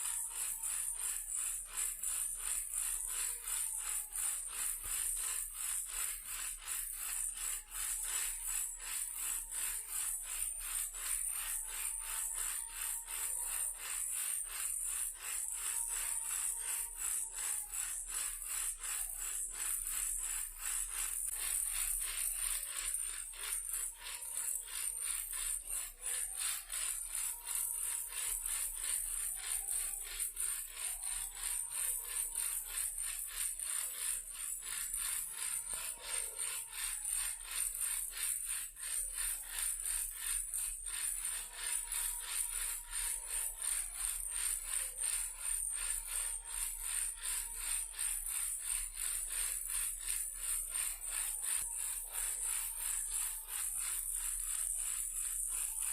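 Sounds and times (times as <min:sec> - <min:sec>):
toy rattle shaken: 0:00.0 - 0:55.9.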